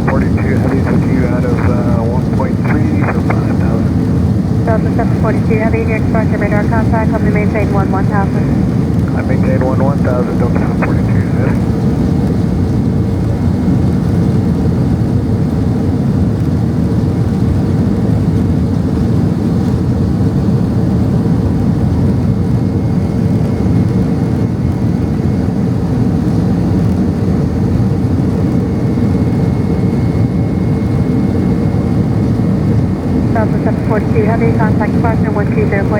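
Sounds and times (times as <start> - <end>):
faint steady hum: 0.0 - 14.1, 20.4 - 35.9
jet engines roaring in cabin: 0.0 - 35.9.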